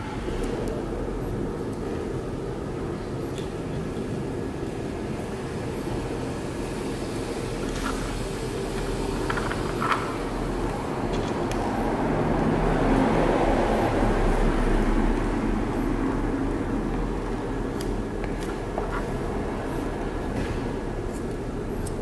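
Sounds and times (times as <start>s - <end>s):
steady rumbling noise: 0.0s - 22.0s.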